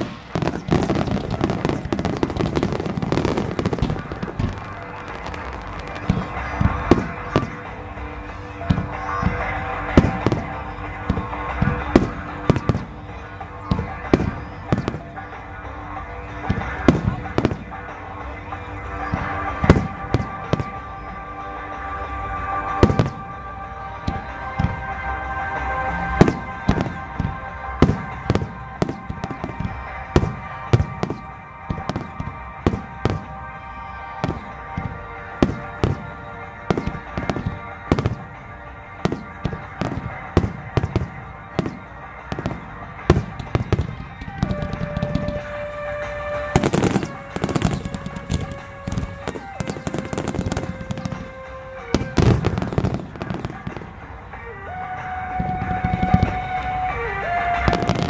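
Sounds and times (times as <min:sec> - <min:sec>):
firework shells bursting: 0:00.0 - 0:58.0
music playing: 0:00.0 - 0:58.0.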